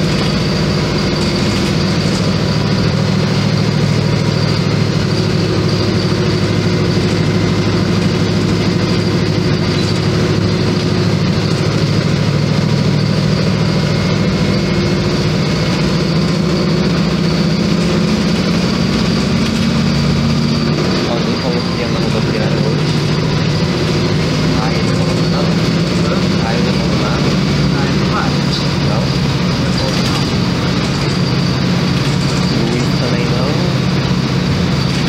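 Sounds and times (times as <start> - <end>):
bus diesel engine drone: 0.0 - 35.0.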